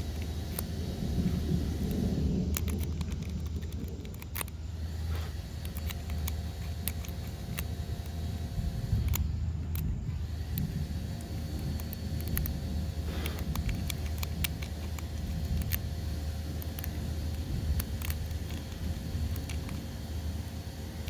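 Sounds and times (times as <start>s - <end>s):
lock picks clicking in a lock: 0.0s - 4.8s, 5.4s - 21.0s
steady low rumble: 0.0s - 21.0s.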